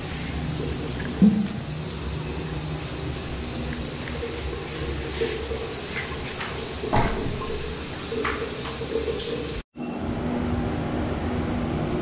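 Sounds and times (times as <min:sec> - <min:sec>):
shower water running: 0:00.0 - 0:09.6.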